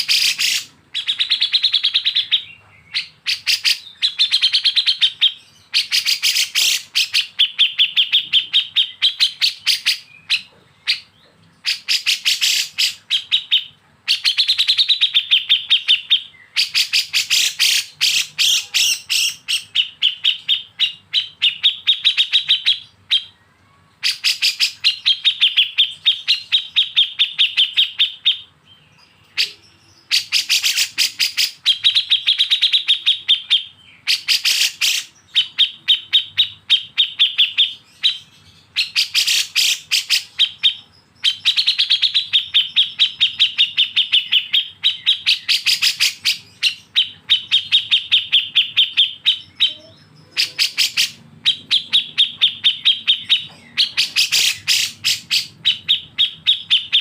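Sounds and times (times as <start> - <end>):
bulbul chattering song: 0.0 - 57.0.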